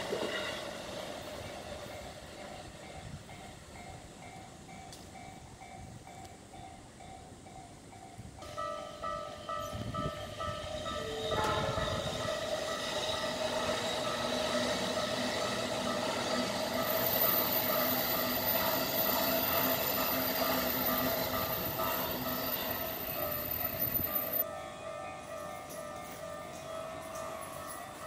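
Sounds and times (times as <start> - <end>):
electric train passing: 0.0 - 28.0
level crossing warning bell: 1.7 - 28.0.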